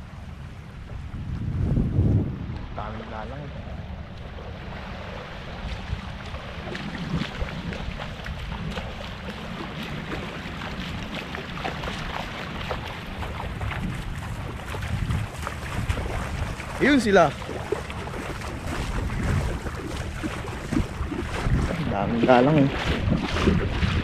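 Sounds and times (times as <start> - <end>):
wind buffeting microphone: 0.0 - 24.0
person wading through water: 3.5 - 24.0.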